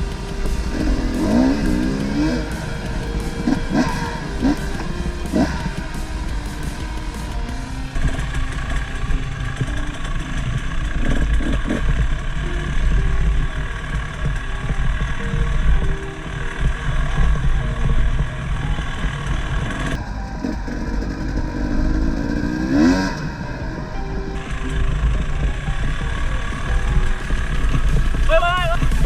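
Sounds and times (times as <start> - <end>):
off-road motorcycle engine: 0.0 - 29.0.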